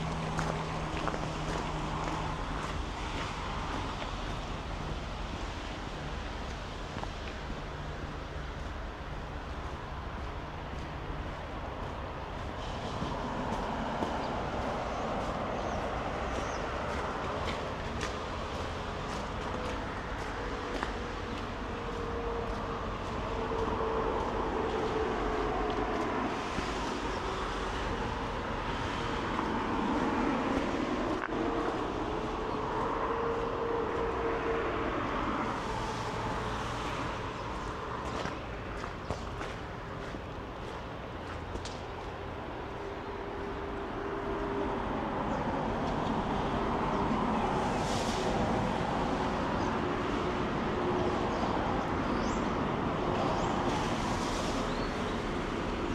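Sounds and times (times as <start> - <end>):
traffic hum: 0.0 - 55.9.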